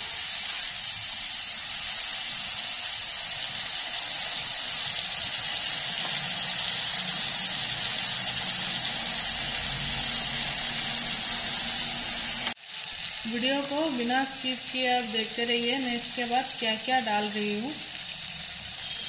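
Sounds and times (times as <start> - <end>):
prawns sizzling in hot oil: 0.0 - 19.0.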